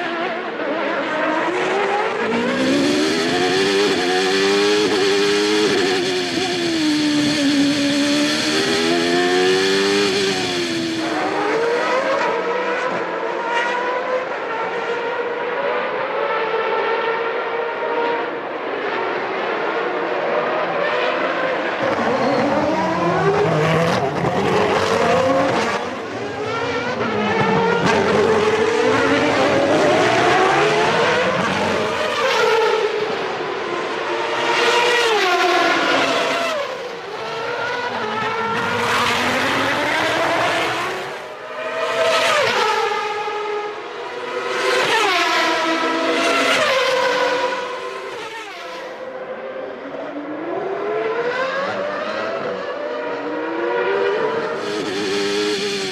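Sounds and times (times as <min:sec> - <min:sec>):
racing car engines screaming: 0:00.9 - 0:14.6, 0:19.9 - 0:49.0, 0:53.3 - 0:55.9.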